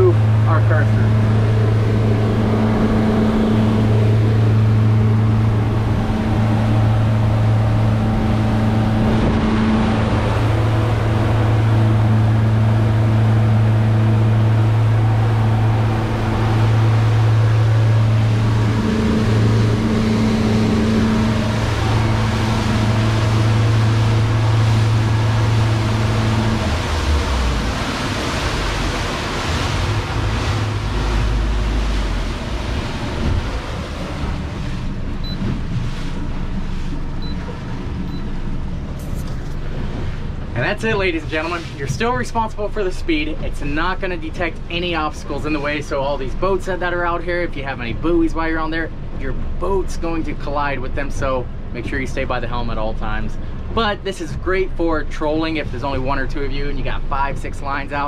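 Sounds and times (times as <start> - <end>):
outboard motor hum: 0.0 - 58.0
rushing water and hull noise: 0.0 - 58.0
wind: 0.0 - 58.0.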